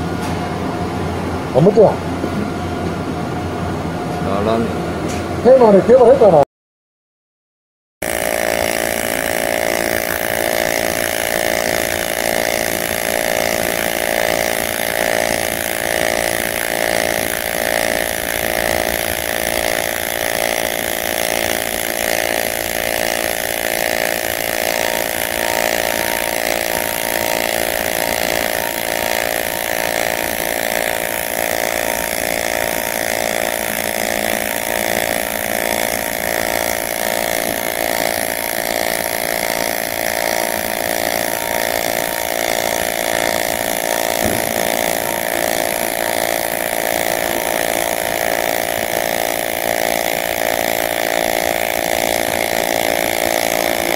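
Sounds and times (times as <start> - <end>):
welding arc buzzing: 8.0 - 53.9.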